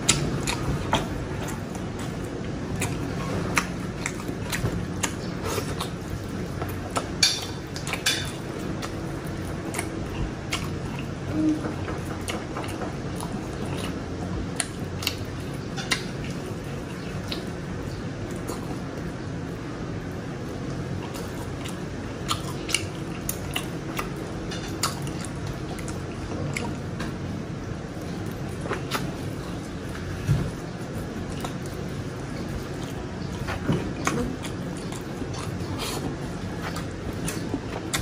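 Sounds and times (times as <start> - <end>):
person chewing: 0.0 - 38.0
steady low hum: 0.0 - 38.0.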